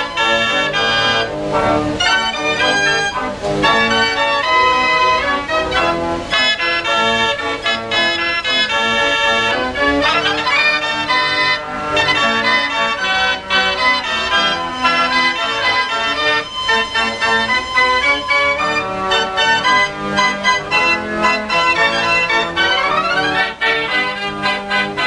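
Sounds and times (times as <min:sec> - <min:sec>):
fair organ playing a tune: 0:00.0 - 0:25.0.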